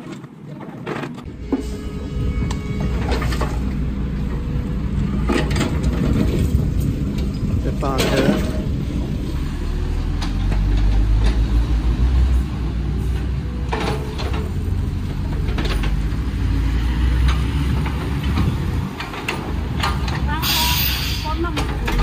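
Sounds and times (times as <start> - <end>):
diesel engines rumbling: 1.2 - 22.0.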